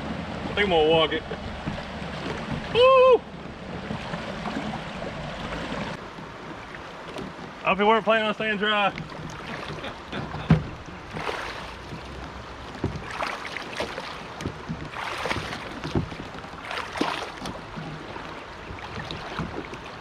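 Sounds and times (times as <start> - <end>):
kayak hull and paddle thumps: 0.0 - 20.0
river water rushing and splashing: 0.0 - 20.0.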